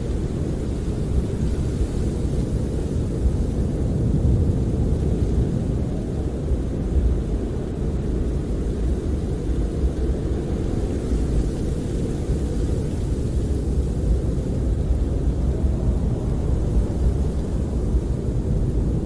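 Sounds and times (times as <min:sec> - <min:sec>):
snowstorm wind against camper: 0:00.0 - 0:19.0.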